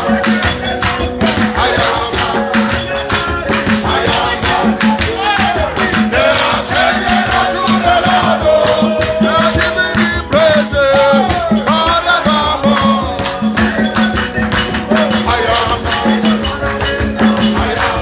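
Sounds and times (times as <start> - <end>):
fast rhythmic percussion: 0.0 - 18.0
people singing: 0.0 - 18.0.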